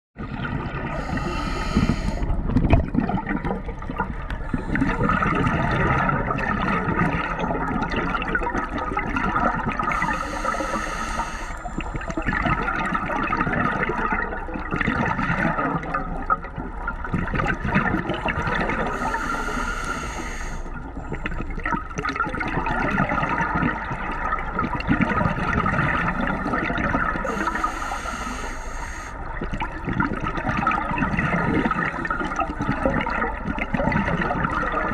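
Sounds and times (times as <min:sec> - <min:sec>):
underwater rushing and gurgling: 0:00.2 - 0:34.9.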